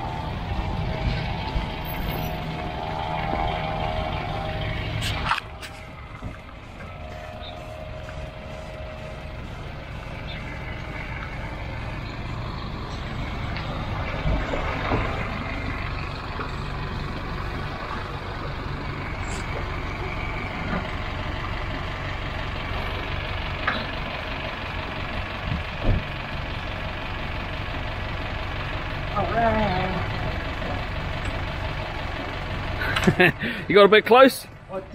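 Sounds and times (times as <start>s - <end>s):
engine running at low revs: 0.0s - 34.9s.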